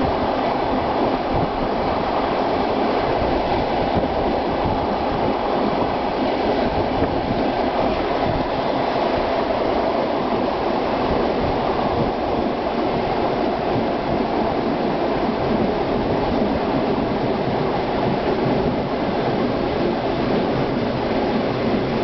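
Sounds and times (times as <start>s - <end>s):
train rumbling along rails: 0.0s - 22.0s.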